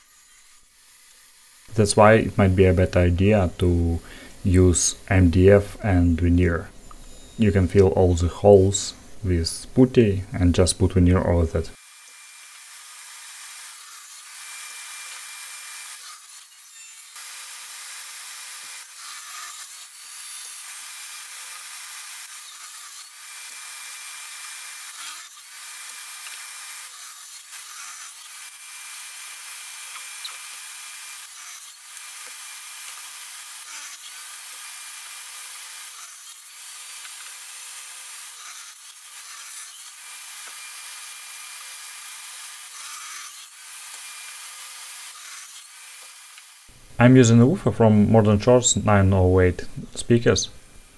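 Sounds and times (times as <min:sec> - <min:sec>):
table saw cutting wood: 0:00.0 - 0:09.5, 0:10.5 - 0:50.9.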